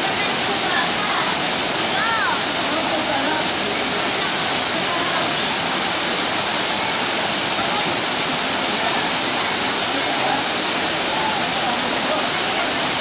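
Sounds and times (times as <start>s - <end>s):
faint voices: 0.0s - 13.0s
water rushing: 0.0s - 13.0s.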